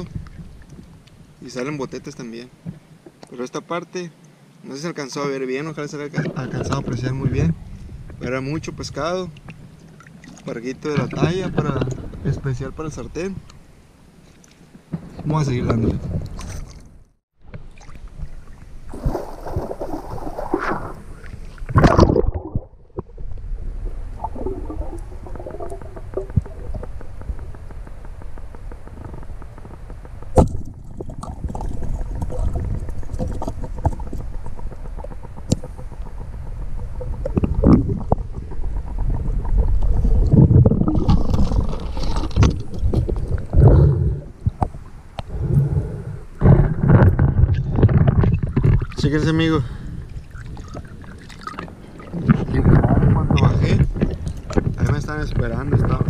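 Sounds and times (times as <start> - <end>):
muffled underwater rumbling: 6.1 - 13.7, 14.9 - 56.0
water splashing: 6.2 - 13.6, 14.2 - 17.0, 17.6 - 56.0
water sloshing: 9.0 - 45.5, 46.1 - 56.0.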